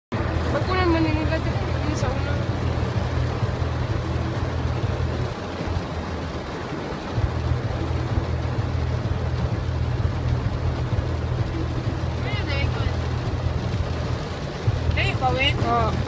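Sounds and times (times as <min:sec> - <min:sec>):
heavy rain on car roof: 0:00.1 - 0:16.0
steady low rumble: 0:00.1 - 0:16.0.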